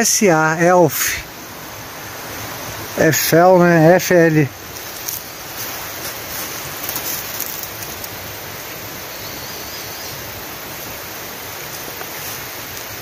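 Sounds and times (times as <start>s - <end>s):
outdoor rushing hiss: 0.0s - 13.0s.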